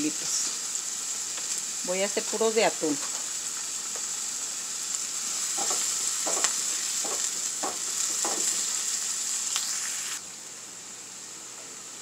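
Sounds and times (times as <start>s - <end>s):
onion sizzling in frying pan: 0.0s - 12.0s.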